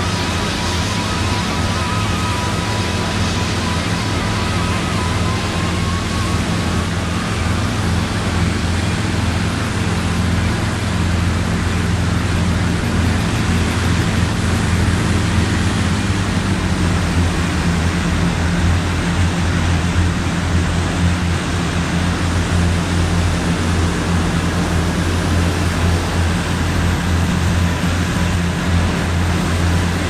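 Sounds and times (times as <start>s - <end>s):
heavy rain: 0.0s - 30.0s
wind buffeting microphone: 0.0s - 30.0s.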